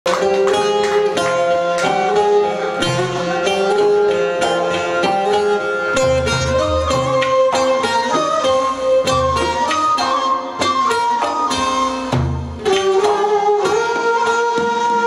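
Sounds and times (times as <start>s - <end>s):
plucked string folk music: 0.1s - 15.0s.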